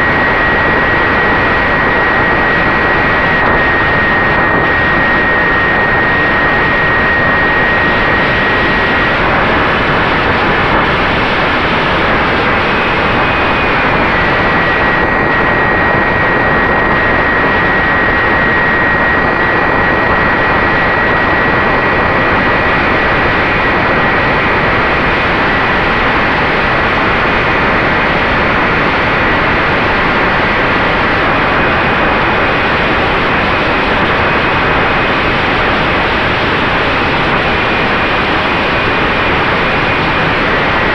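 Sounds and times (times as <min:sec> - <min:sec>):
high whine of electric motor: 0:00.0 - 0:40.9
wind rushing over microphone: 0:00.0 - 0:40.9.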